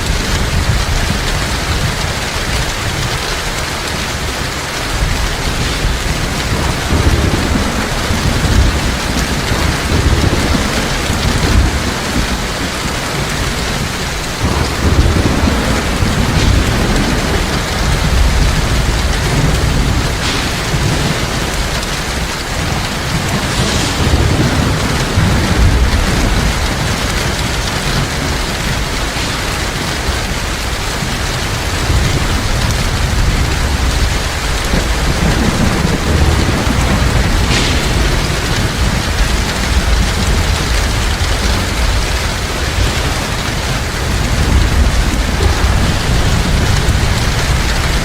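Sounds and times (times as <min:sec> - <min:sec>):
heavy rain falling: 0:00.0 - 0:48.0
rolling thunder rumble: 0:00.0 - 0:48.0.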